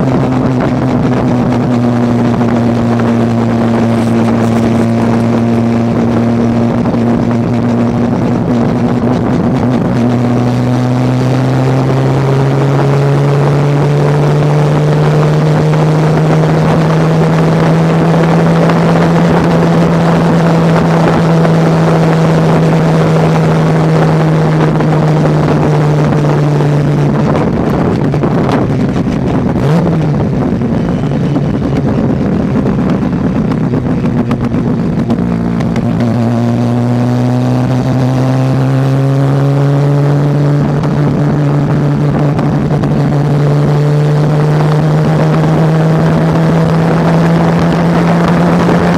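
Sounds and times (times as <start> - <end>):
rotary engine running: 0.0 - 48.9.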